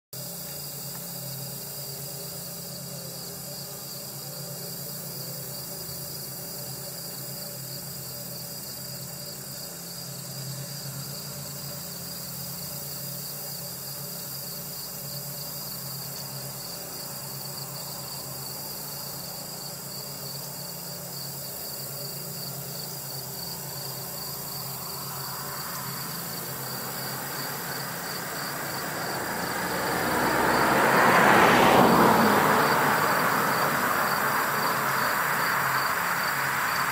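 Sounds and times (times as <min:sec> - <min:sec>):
insects trilling: 0:00.2 - 0:36.9
approaching vehicle rush: 0:04.8 - 0:36.9.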